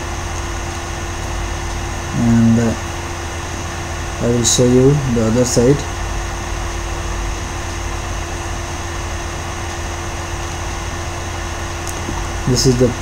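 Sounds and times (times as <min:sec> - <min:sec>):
constant humming tone: 0:00.0 - 0:13.0.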